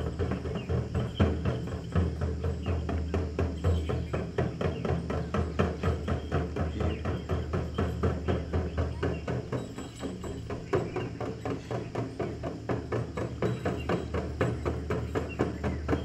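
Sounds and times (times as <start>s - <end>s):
drum beaten in fast rhythm: 0.0s - 16.0s.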